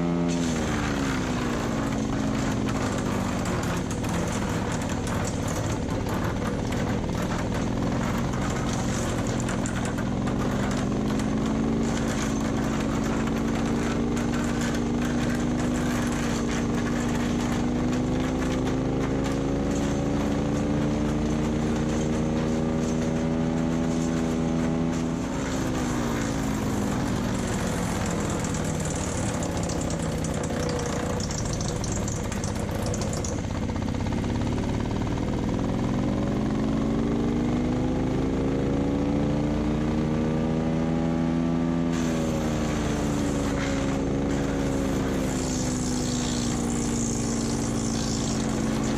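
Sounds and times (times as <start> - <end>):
wood chipper engine running: 0.0 - 48.9.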